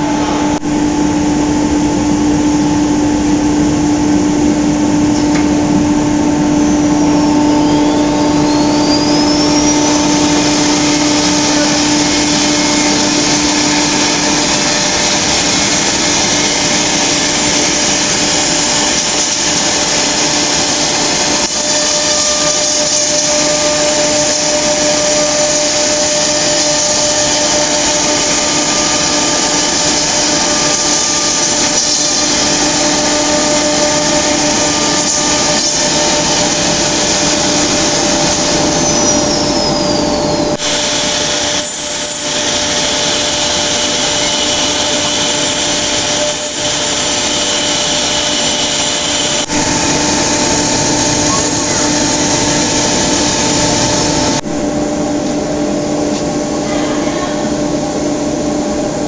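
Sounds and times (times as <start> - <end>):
spindle whine rising: 0.0 - 56.7
router machine running: 5.5 - 54.8.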